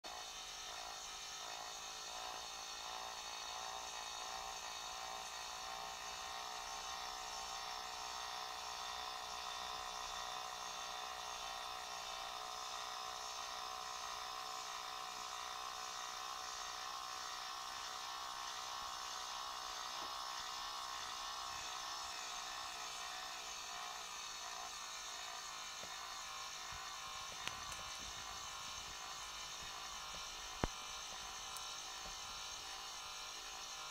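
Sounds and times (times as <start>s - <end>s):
small electric motor whining hum: 0.0s - 33.9s.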